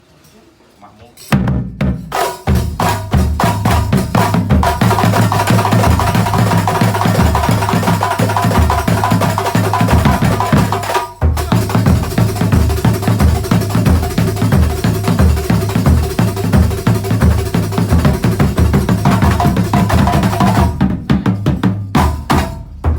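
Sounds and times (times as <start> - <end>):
frame drums playing fast rhythm: 1.3 - 22.9.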